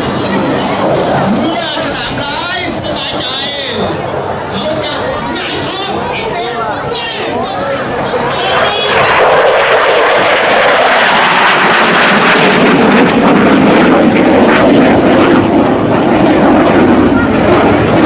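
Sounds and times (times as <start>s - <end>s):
jet flying past: 0.0s - 18.0s.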